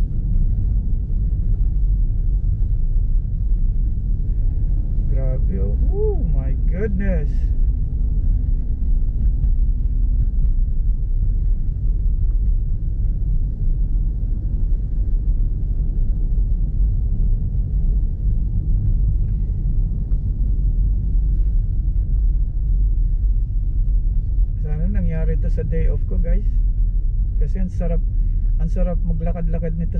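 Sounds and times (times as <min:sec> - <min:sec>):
car driving on snow: 0:00.0 - 0:29.9.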